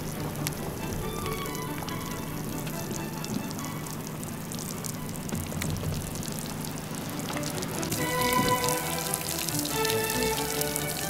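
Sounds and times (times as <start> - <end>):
music with held notes: 0.0 - 5.7, 6.8 - 11.0
water dripping on wet pavement: 0.0 - 11.0.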